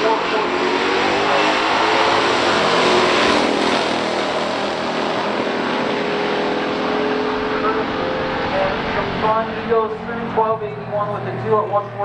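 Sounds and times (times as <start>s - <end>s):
muscle cars accelerating: 0.0s - 12.0s.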